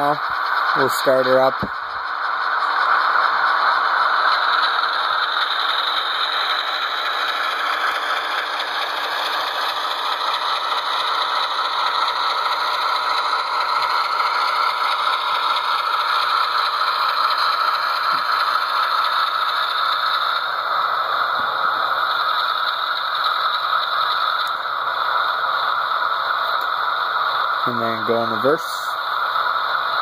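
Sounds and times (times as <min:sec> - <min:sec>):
tinny engine drone with rattle: 0:00.0 - 0:30.0.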